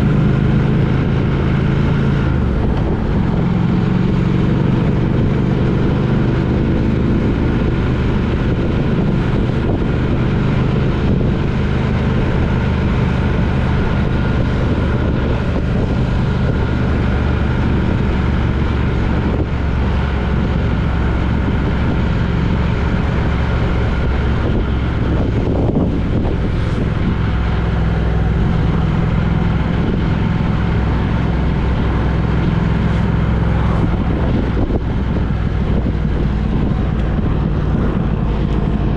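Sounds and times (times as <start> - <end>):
road noise: 0.0 - 38.9
vehicle engine drone: 0.0 - 38.9.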